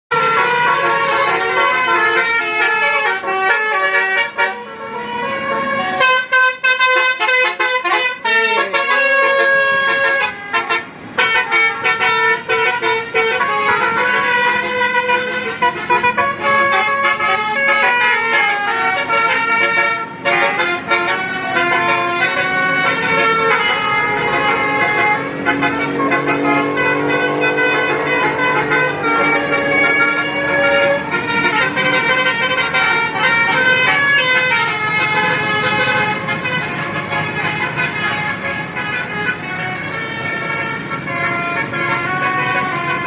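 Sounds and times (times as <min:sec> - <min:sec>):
multi-tone bus horn melody: 0:00.1 - 0:43.0.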